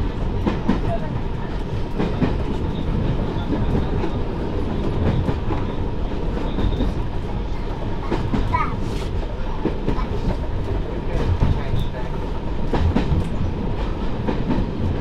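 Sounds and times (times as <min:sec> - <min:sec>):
rail joint clicks: 0:00.0 - 0:15.0
railcar engine and wheels rumbling: 0:00.0 - 0:15.0.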